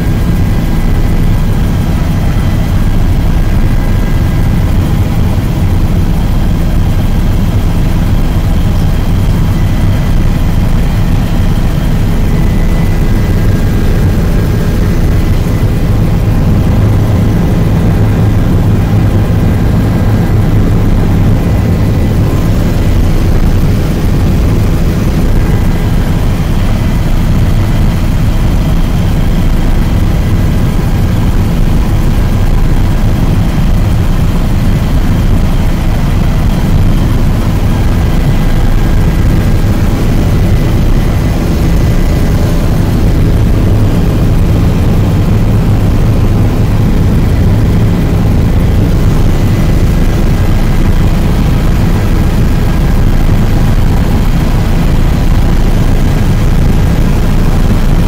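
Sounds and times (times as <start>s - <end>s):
faint high whine: 0.0s - 58.0s
helicopter rotor and engine drone: 0.0s - 58.0s.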